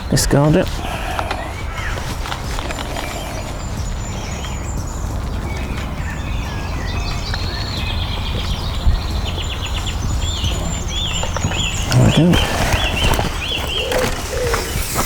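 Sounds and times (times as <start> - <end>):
steady low rumble: 0.0 - 12.1
songbirds chirping and singing: 0.0 - 15.0.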